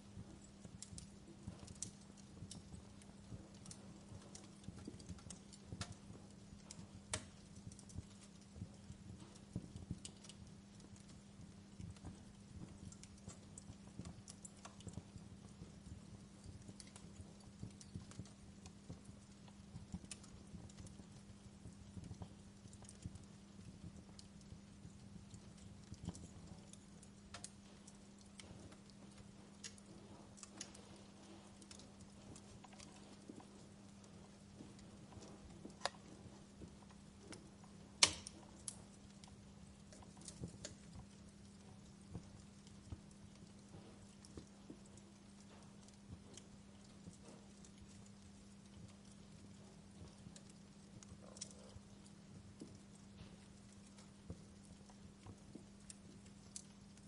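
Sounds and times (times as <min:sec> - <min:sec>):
faint low hum: 0:00.0 - 0:57.0
wood fire crackling: 0:00.0 - 0:57.0.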